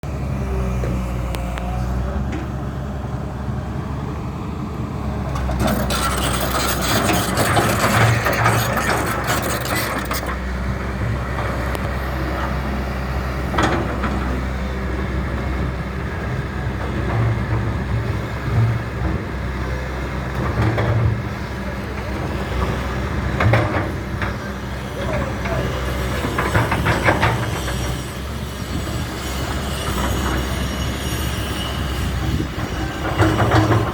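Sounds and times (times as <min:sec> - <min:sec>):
backhoe diesel engine running: 0:00.1 - 0:33.9.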